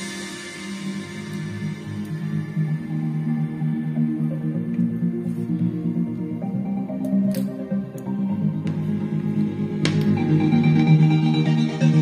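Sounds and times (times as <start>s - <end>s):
bass-heavy music through speaker: 0.0s - 12.0s.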